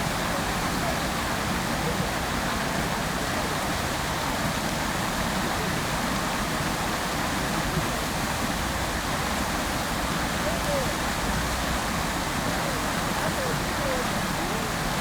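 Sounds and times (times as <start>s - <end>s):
water fountain splashing: 0.0s - 15.0s.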